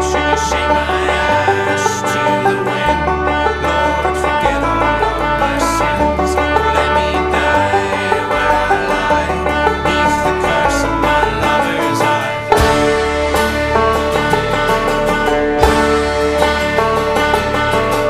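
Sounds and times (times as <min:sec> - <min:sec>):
banjo fingerpicked rolls: 0:00.0 - 0:18.0
bass and drums: 0:02.5 - 0:18.0.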